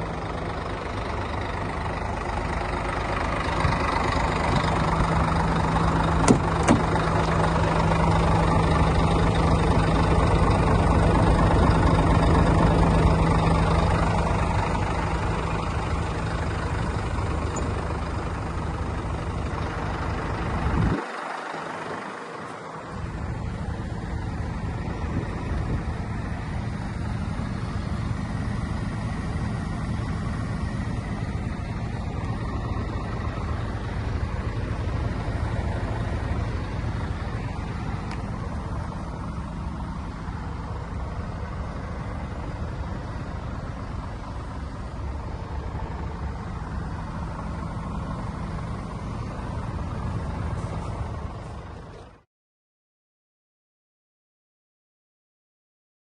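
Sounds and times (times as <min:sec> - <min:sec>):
diesel truck engine running: 0:00.0 - 0:52.3.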